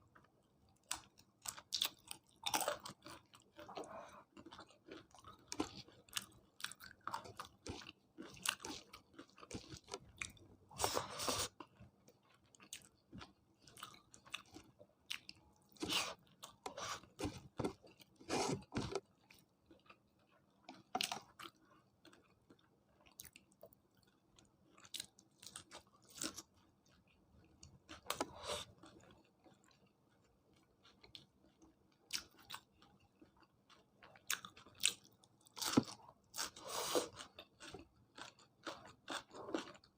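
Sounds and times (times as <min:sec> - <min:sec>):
person chewing crunchy food: 0:00.1 - 0:39.9.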